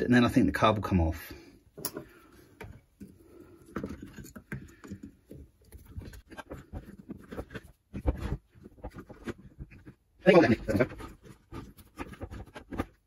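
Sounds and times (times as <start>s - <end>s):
metal and plastic clicks and scrapes: 1.8s - 13.0s.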